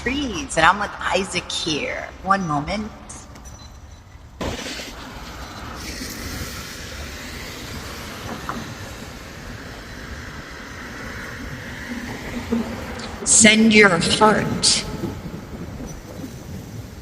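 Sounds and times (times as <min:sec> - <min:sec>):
train passing rumble: 0:00.0 - 0:17.0.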